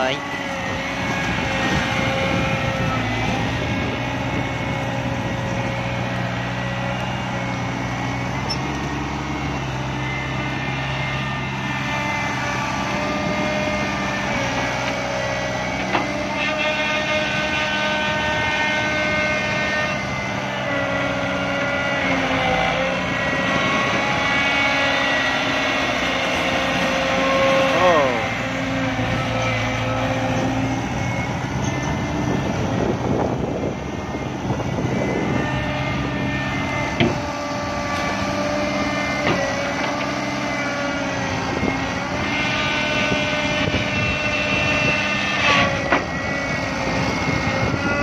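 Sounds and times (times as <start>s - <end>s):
excavator diesel engine working: 0.0s - 48.0s.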